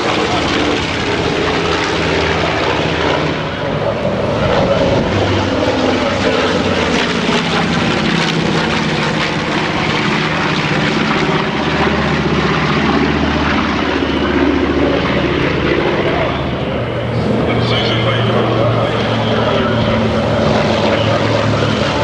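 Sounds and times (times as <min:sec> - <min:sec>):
propeller airplane engine: 0:00.0 - 0:22.0.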